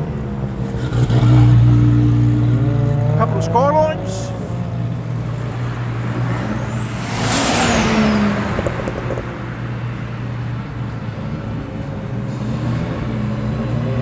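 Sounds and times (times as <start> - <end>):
car engines running: 0.0 - 14.0
car passing with tyre noise: 0.0 - 14.0.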